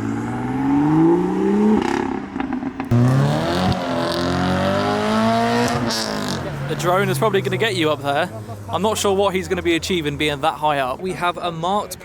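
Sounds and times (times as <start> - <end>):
car engine accelerating: 0.0 - 9.7.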